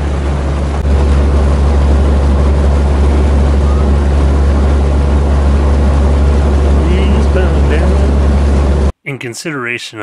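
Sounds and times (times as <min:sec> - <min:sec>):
boat engine droning: 0:00.0 - 0:08.9.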